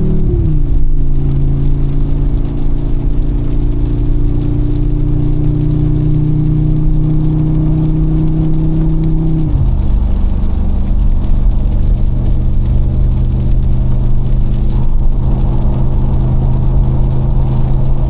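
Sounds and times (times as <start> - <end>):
car engine cruising: 0.0 - 18.0.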